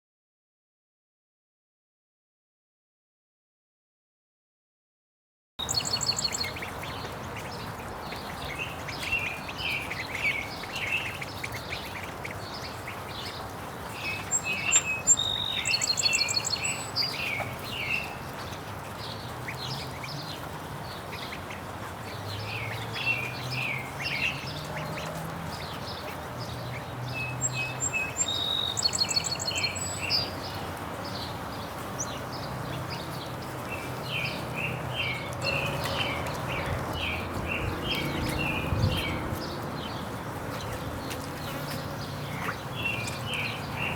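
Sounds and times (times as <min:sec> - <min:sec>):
birds chirping and peeping: 0:05.6 - 0:43.9.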